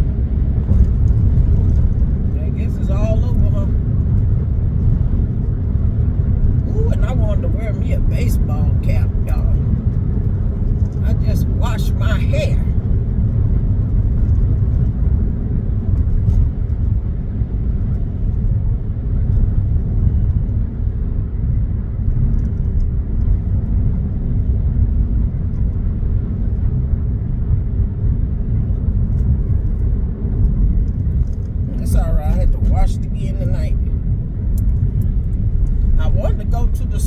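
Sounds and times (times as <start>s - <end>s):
car cabin road rumble: 0.0s - 37.0s
wind noise: 0.0s - 37.0s.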